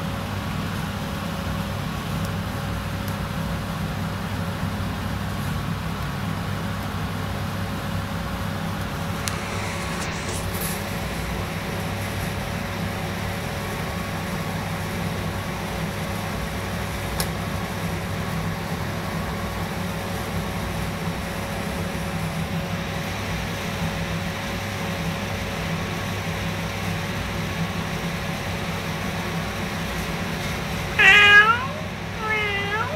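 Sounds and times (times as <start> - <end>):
mechanical hum: 0.0 - 32.9.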